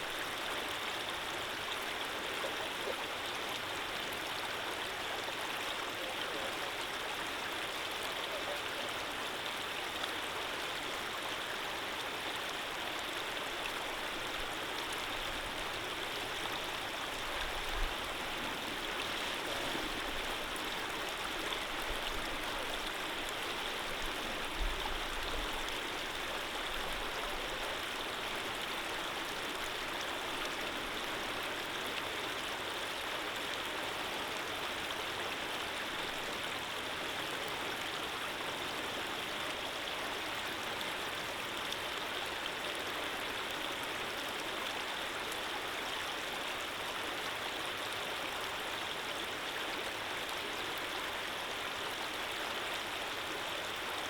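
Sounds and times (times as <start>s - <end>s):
stream of running water: 0.0s - 54.0s.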